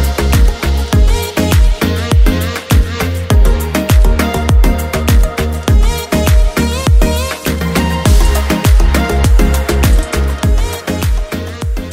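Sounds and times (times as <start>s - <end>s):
electronic dance music: 0.0s - 11.9s.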